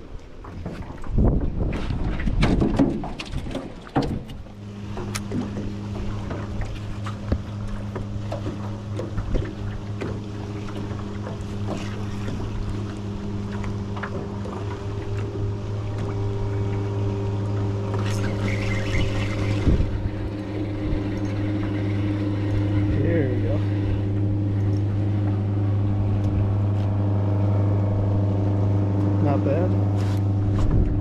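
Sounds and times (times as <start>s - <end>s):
boat motor humming: 0.0s - 31.0s.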